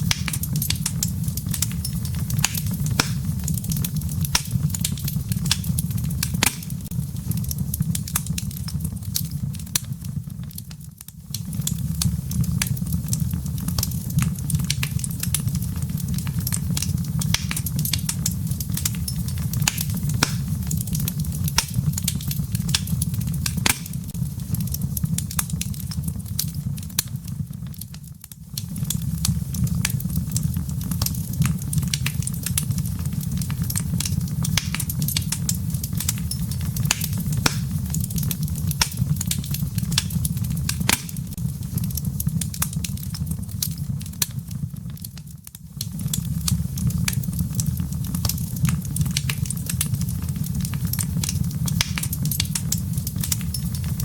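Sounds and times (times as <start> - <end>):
fire crackling and popping: 0.0 - 54.0
low roar of flames: 0.0 - 54.0.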